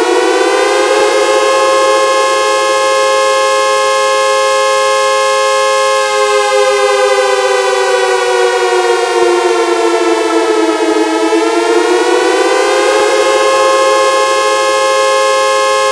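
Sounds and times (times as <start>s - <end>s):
air raid siren wail: 0.0s - 15.9s.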